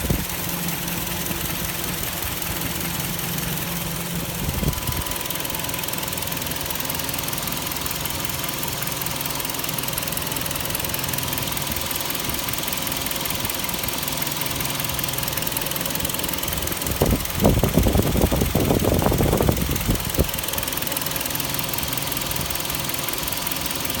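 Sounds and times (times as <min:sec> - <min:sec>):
car engine idling: 0:00.0 - 0:24.0
irregular engine clatter: 0:00.0 - 0:24.0.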